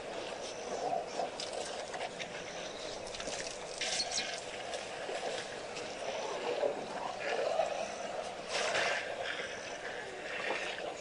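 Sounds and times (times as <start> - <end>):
water splashing and gurgling: 0.0 - 11.0.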